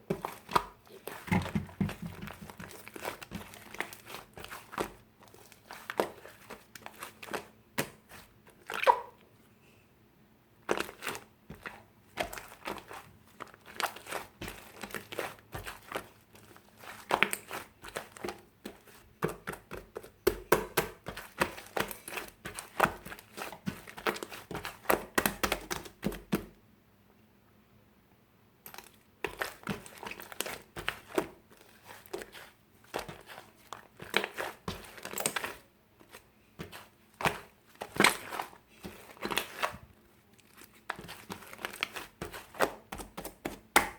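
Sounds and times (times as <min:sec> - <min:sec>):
slime squishing with wet clicks: 0:00.0 - 0:09.4, 0:10.6 - 0:26.6, 0:28.6 - 0:43.9.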